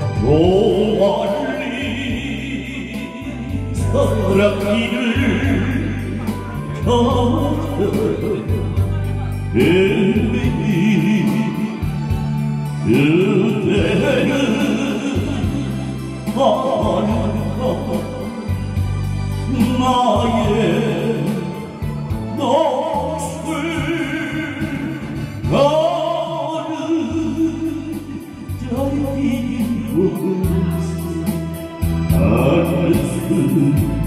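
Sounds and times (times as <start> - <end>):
amplified backing track: 0.0 - 34.0
man singing into a microphone: 0.0 - 34.0.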